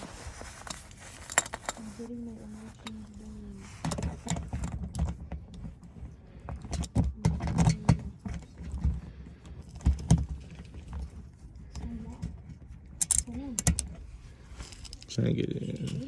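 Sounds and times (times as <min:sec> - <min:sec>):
clatter and handling noise: 0:00.0 - 0:16.0.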